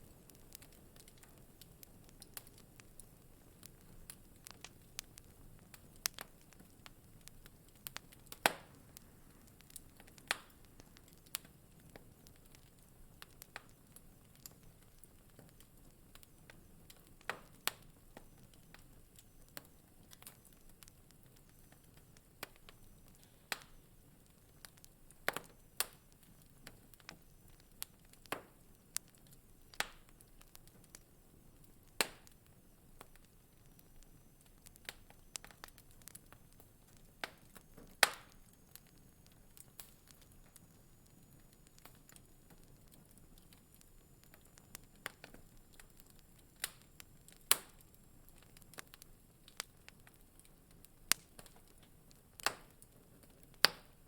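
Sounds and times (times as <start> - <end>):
soft low hiss: 0.0 - 54.0
wood fire crackling and popping: 0.0 - 54.0.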